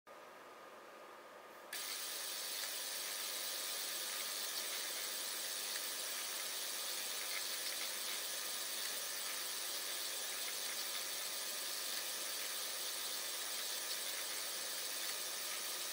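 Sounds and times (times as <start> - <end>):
steady hiss: 1.7 - 15.9
small motor whirring and ticking: 1.8 - 15.9.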